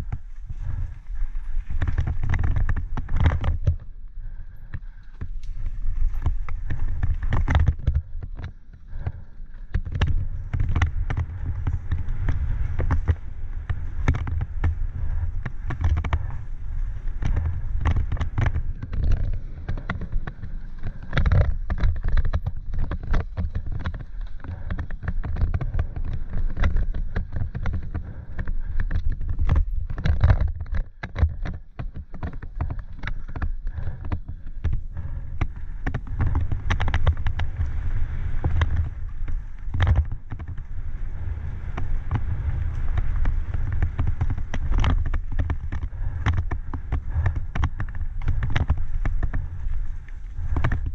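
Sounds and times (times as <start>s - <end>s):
mountain bike rattling and clattering: 0.0s - 50.9s
wind buffeting on microphone: 0.0s - 50.9s.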